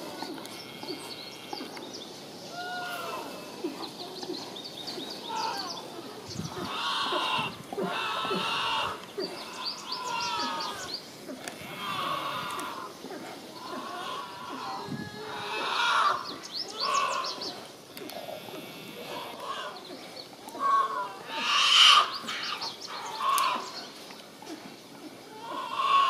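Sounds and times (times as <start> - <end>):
bear cubs crying: 2.4 - 24.6, 25.3 - 26.0.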